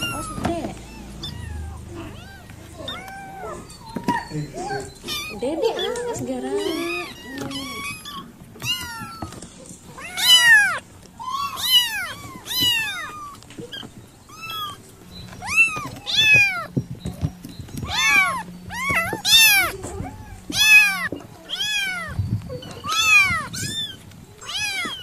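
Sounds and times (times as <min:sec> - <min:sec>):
kittens mewing: 0:00.0 - 0:25.0.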